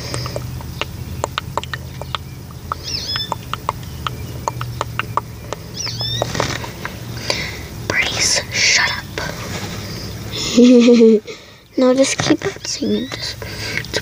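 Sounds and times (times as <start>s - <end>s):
bird chirping: 0.0s - 14.0s
low steady hum: 0.0s - 14.0s.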